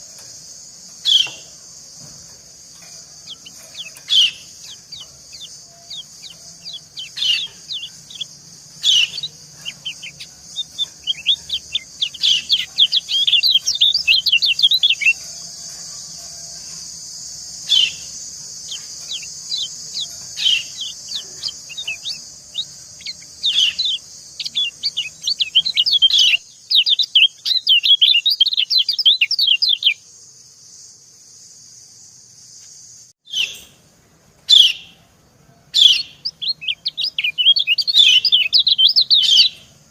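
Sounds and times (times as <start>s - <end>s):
steady high hiss: 0.0s - 39.9s
white-eye chirping: 0.7s - 30.0s, 35.8s - 39.7s.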